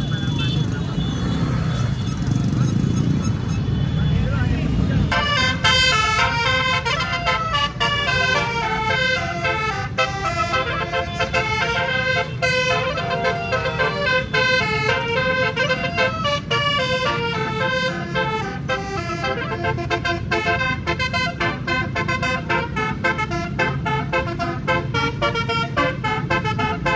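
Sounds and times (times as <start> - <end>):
multi-note air horn melody: 5.1 - 26.9.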